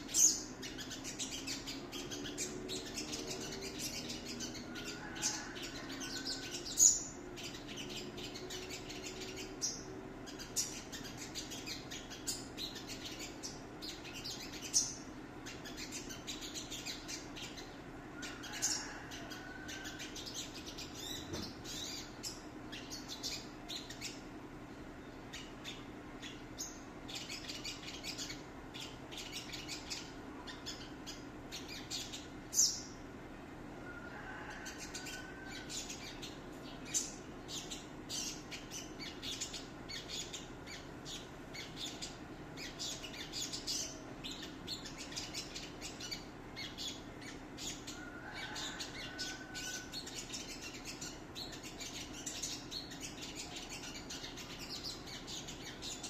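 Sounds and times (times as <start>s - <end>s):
bird chirping and singing: 0.0s - 24.3s, 25.0s - 33.0s, 34.6s - 56.0s
faint low hum: 0.0s - 56.0s.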